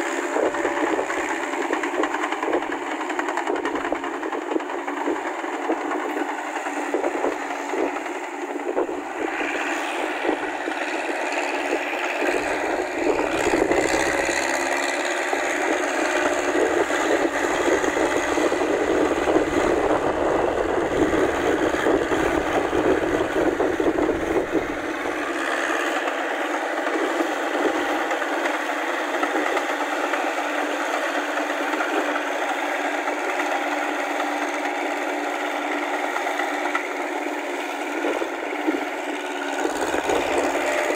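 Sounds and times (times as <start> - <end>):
clanking rattle of steel tracks: 0.0 - 40.9
tractor diesel engine under load: 0.0 - 40.9.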